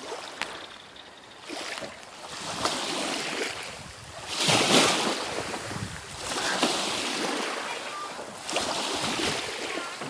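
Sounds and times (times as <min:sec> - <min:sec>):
water: 0:00.0 - 0:10.0
water splashes: 0:00.0 - 0:10.0
wind: 0:00.0 - 0:10.0.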